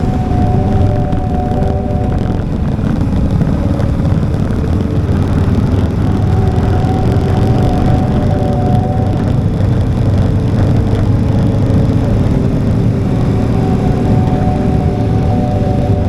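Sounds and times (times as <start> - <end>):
high steady machine tone: 0.0 - 16.0
motorcycle engine running: 0.0 - 16.0
road and wind noise: 0.0 - 16.0.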